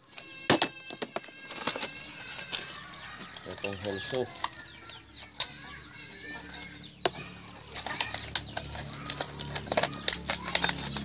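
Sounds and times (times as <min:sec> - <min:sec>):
chickens and birds calling: 0:00.0 - 0:11.0.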